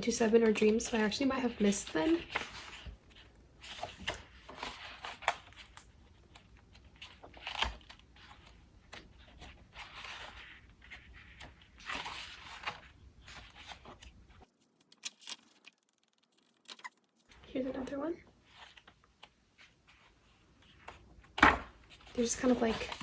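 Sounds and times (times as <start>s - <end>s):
paper rustling: 0.0s - 23.0s
paper pages turning: 0.2s - 23.0s.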